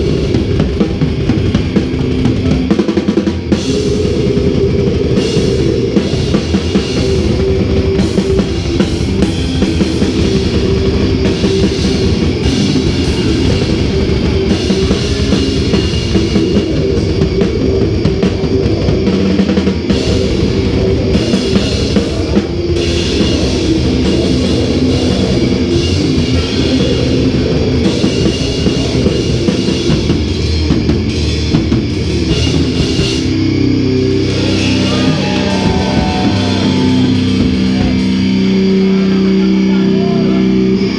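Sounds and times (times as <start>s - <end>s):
fast drum kit with cymbals: 0.0s - 40.9s
heavy guitars: 0.0s - 40.9s
heavy metal band playing live: 0.0s - 40.9s.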